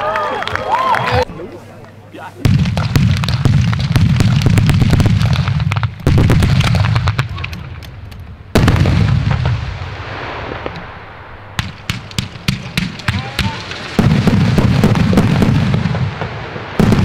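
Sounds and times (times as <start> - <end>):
fireworks crackling: 2.3 - 17.0
fireworks bursting: 2.4 - 17.0.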